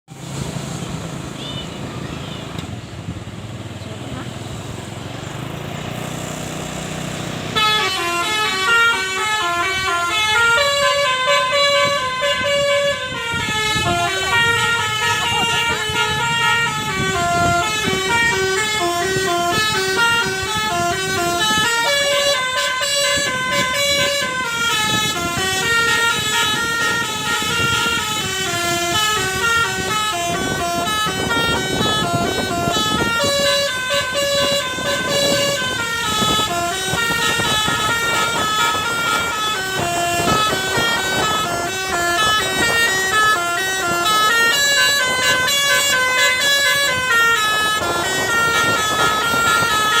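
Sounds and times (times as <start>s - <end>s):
multi-tone musical air horn: 7.4s - 50.0s.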